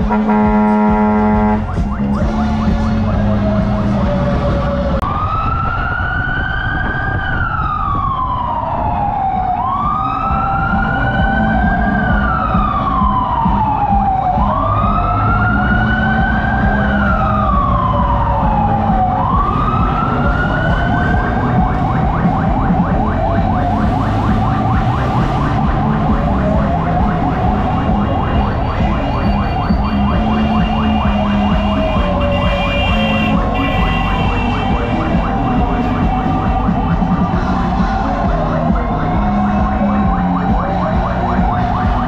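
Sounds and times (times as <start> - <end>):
fire truck siren wailing: 0.0 - 42.0.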